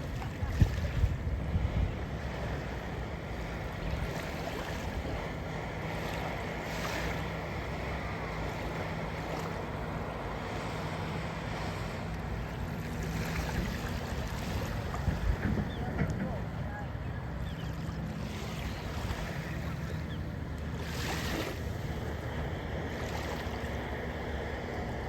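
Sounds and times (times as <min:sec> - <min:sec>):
sea water washing: 0:00.0 - 0:25.0
wind buffeting microphone: 0:00.0 - 0:25.0.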